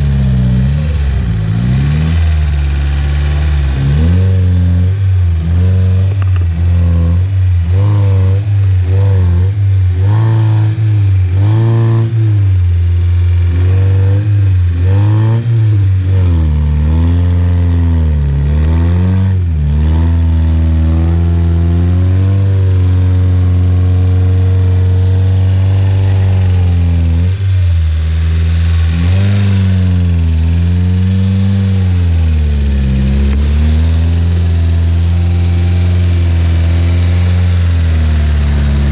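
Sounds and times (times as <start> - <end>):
vehicle engine revving: 0.0 - 38.9.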